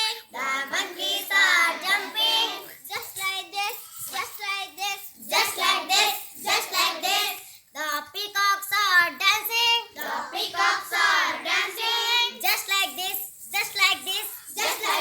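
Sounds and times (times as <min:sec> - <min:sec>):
children singing a rhyme: 0:00.0 - 0:15.0.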